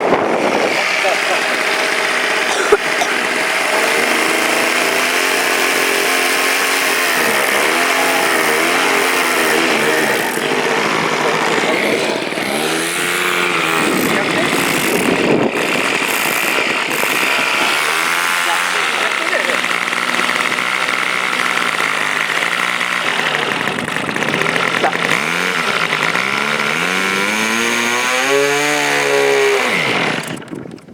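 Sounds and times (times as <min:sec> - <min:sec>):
model aircraft engine running: 0:00.0 - 0:30.7.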